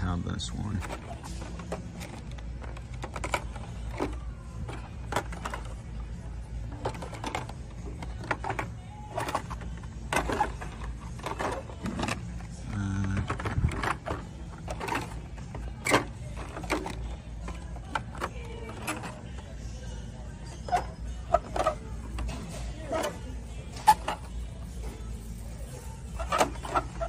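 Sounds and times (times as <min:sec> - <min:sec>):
low store hum: 0:00.0 - 0:27.0
blister packs clacking and rattling: 0:00.6 - 0:27.0.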